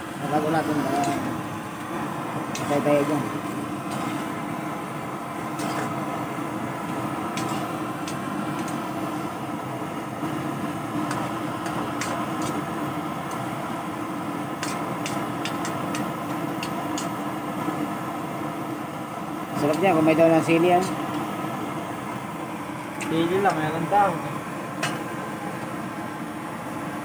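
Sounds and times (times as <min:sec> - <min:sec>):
steady droning hum: 0:00.0 - 0:27.0.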